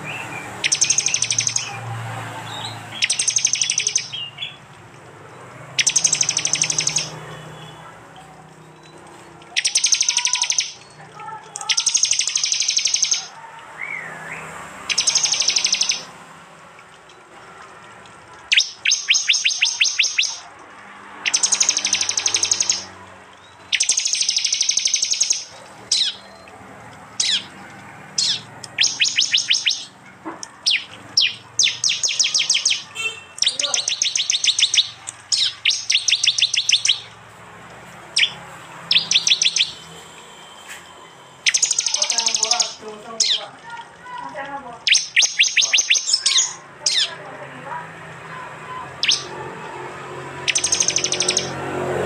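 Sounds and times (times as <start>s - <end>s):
bird song with sharp rapid notes: 0.0s - 7.9s, 8.6s - 16.2s, 16.8s - 37.3s, 38.1s - 47.2s, 48.2s - 52.0s.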